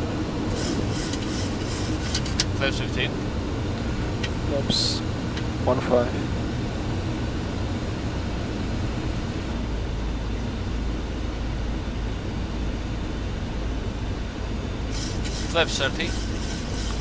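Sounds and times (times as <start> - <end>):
low aircraft rumble: 0.0 - 17.0.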